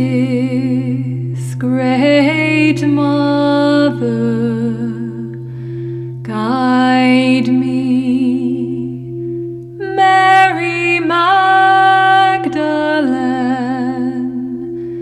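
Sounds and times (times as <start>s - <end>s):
singing bowls drone: 0.0s - 15.0s.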